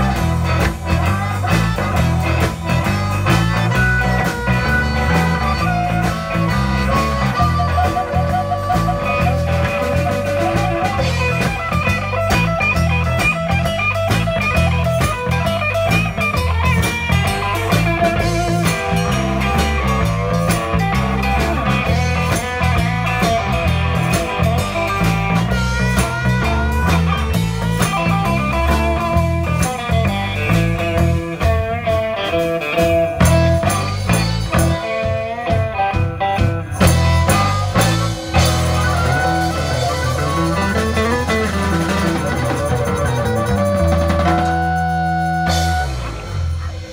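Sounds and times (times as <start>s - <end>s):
bass guitar: 0.0s - 46.9s
blues harmonica: 0.0s - 46.9s
drum kit beat: 0.0s - 46.9s
electric guitars: 0.0s - 46.9s.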